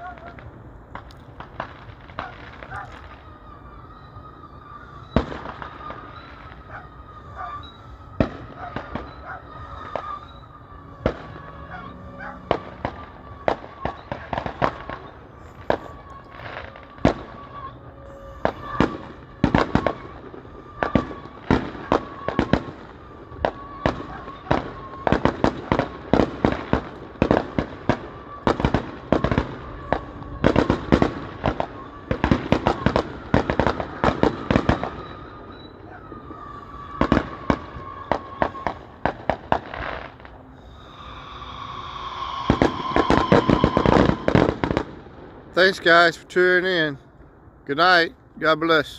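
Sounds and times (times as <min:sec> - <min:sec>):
fireworks banging: 0:00.0 - 0:48.9.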